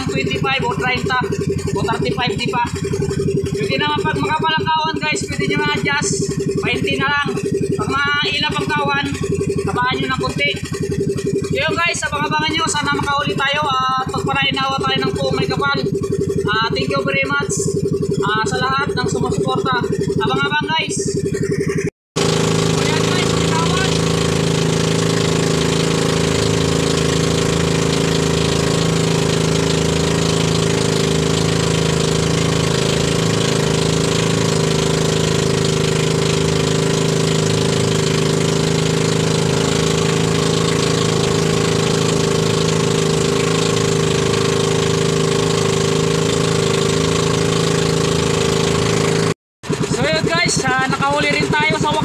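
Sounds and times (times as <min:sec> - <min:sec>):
boat engine running steadily: 0:00.0 - 0:52.0.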